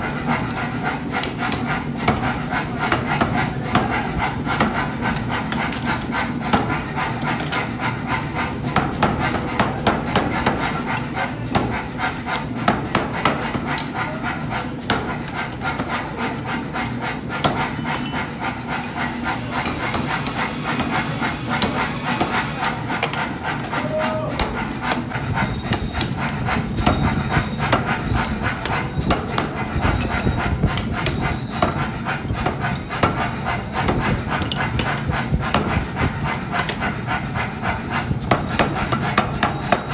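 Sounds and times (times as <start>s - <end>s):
metal knocking and scraping: 0.0s - 39.9s.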